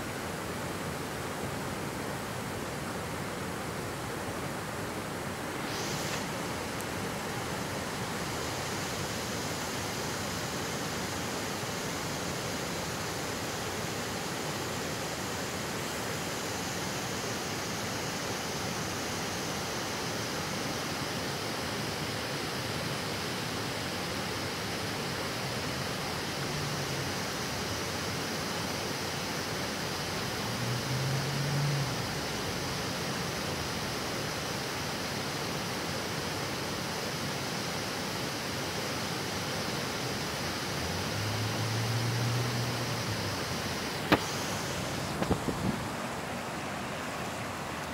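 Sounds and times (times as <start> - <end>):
water rushing over weir: 0.0 - 47.9.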